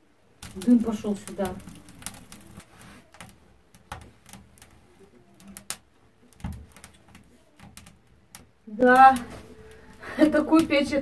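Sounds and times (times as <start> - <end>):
kindling crackling in a stove: 0.0 - 11.0.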